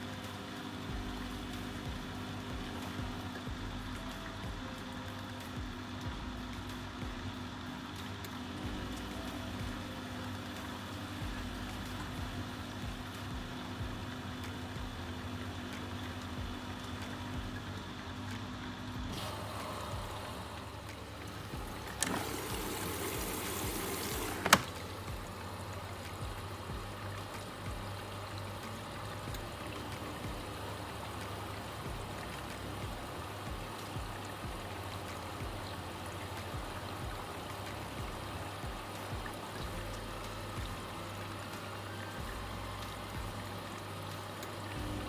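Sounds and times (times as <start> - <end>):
washing machine hum: 0.0 - 45.0
water sloshing in washing machine: 0.0 - 45.0.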